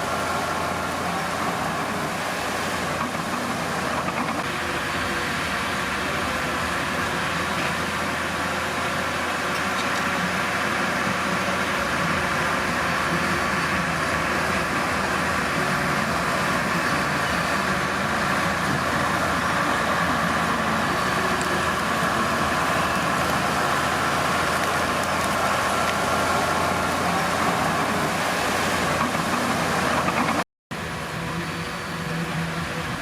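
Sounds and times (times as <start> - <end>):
heavy machinery diesel engine: 0.0 - 33.0.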